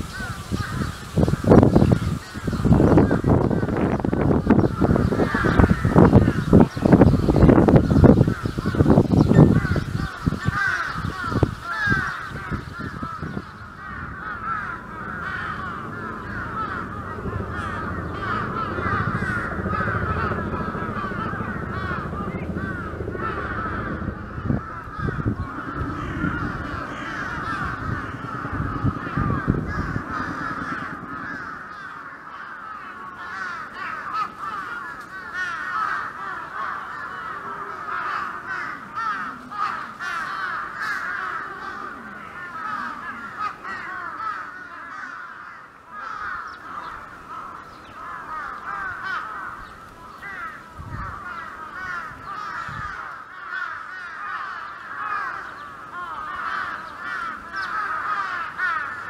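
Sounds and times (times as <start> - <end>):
flock of birds chirping: 0.0 - 59.0.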